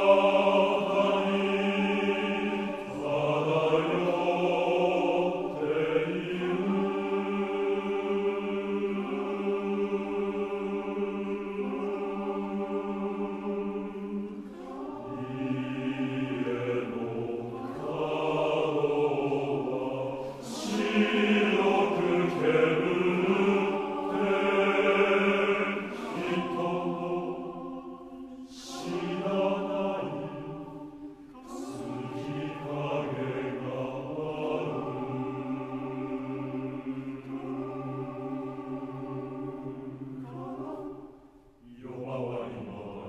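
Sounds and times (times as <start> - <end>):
men's choir singing: 0.0 - 43.0.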